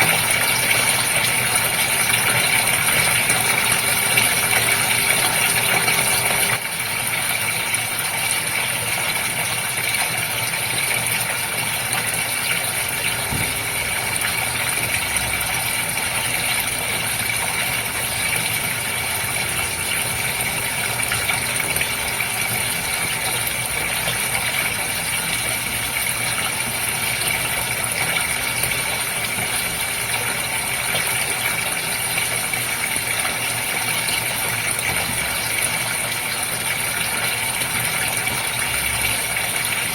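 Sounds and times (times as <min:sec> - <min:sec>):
pump humming and rattling: 0:00.0 - 0:39.9
water running in fish tank: 0:00.0 - 0:39.9.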